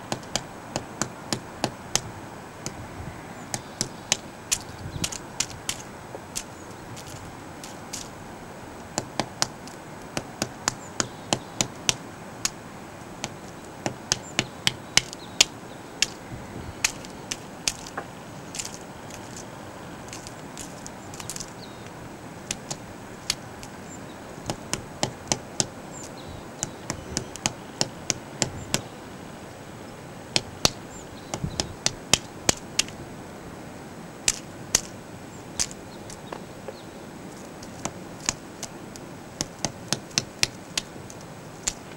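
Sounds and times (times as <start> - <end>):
woodpecker tapping: 0.0 - 2.8, 3.4 - 8.2, 8.9 - 29.0, 30.3 - 33.0, 34.2 - 41.9.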